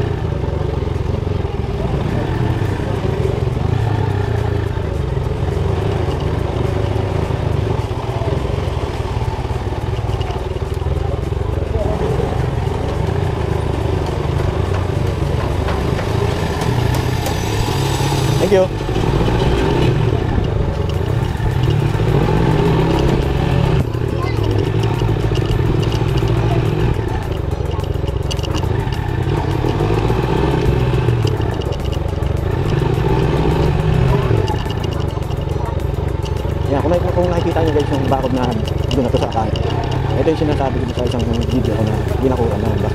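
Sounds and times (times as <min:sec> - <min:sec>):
motorcycle engine running: 0:00.0 - 0:42.9
light clicking and rattling: 0:02.5 - 0:42.9.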